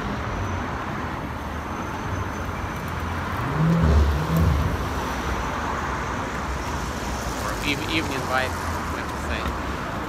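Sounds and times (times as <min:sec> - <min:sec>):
passing cars rumble and tyre noise: 0:00.0 - 0:10.0.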